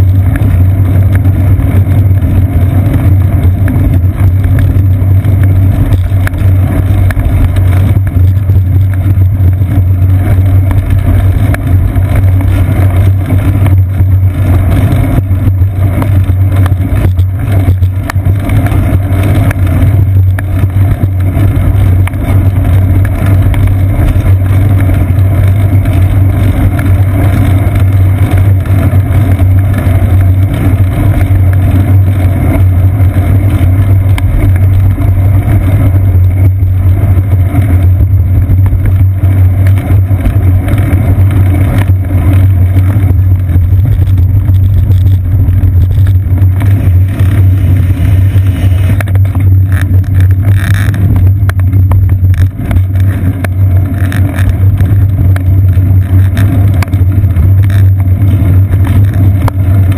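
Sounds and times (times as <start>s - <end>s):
bicycle road vibration: 0.0s - 59.9s
wind rumble: 0.0s - 59.9s.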